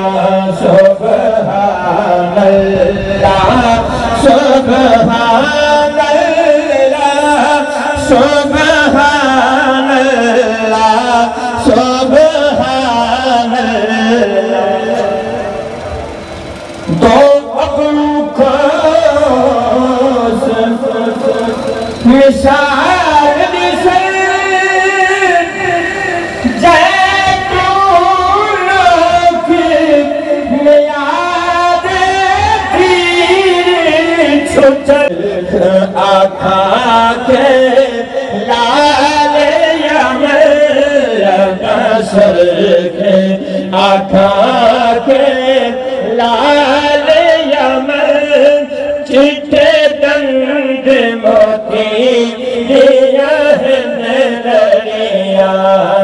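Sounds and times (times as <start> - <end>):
devotional chanting voices: 0.0 - 56.0.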